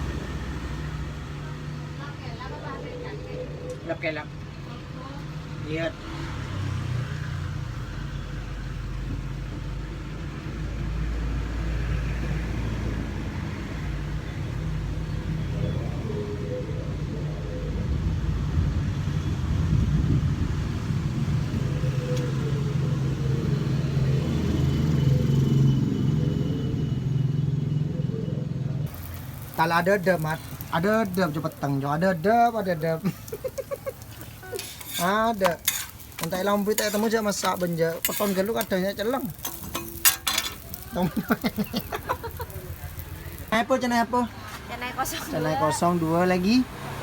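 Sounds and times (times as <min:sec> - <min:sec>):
engine rumbling: 0:00.0 - 0:47.0.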